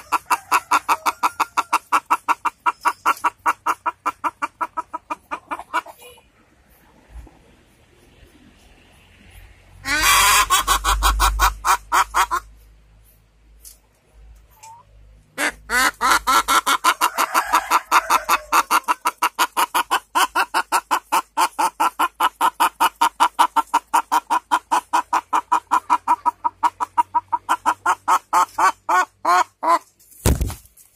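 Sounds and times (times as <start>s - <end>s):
hen clucking rapidly: 0.0s - 7.0s, 9.8s - 12.7s, 14.5s - 30.0s.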